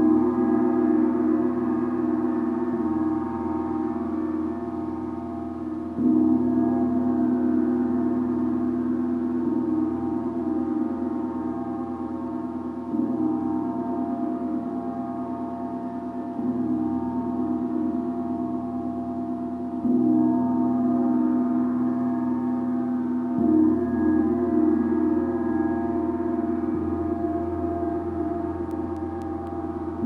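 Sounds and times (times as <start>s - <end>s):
deep gong humming drone: 0.0s - 30.0s.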